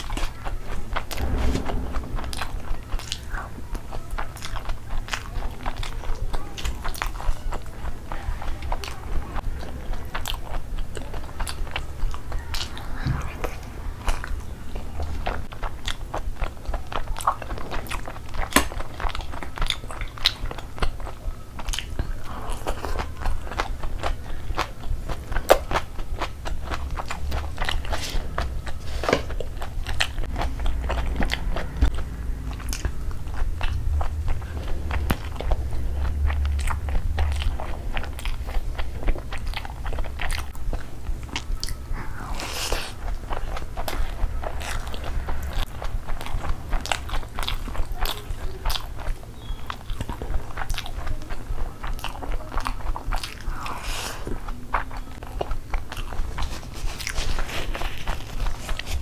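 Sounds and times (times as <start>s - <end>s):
wet chewing with crunchy clicks: 0.0s - 59.0s.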